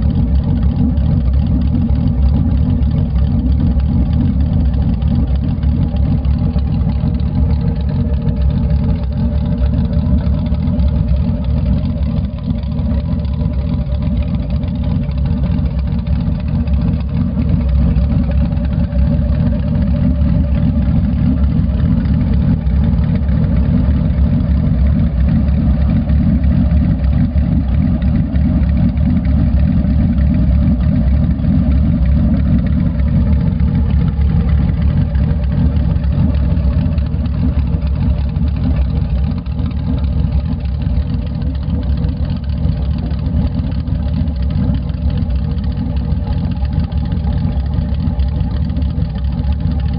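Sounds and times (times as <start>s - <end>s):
motorcycle engine idling: 0.0s - 49.9s.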